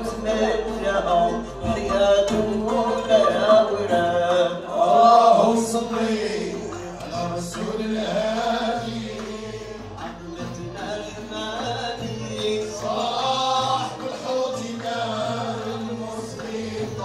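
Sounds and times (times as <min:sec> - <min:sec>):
cello: 0:00.0 - 0:17.0
men singing: 0:00.0 - 0:17.0
oud: 0:00.0 - 0:17.0.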